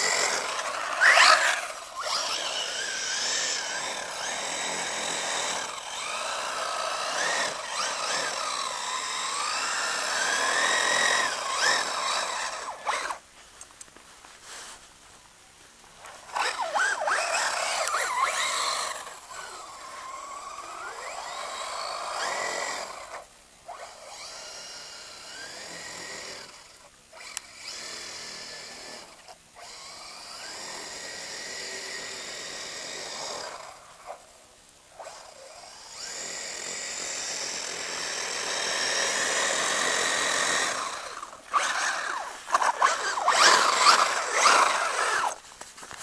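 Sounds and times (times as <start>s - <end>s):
electric motor whining: 0.0s - 13.2s, 16.2s - 34.2s, 34.9s - 45.4s.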